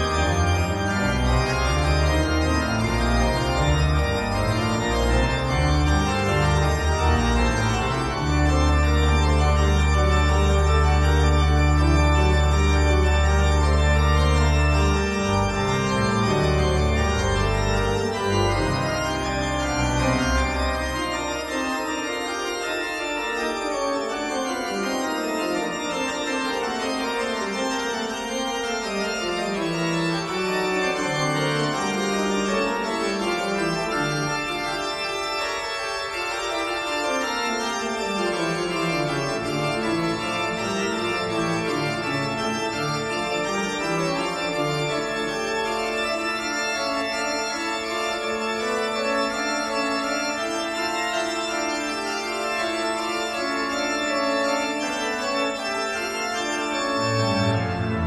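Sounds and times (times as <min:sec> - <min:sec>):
organ chords: 0:00.0 - 0:58.0.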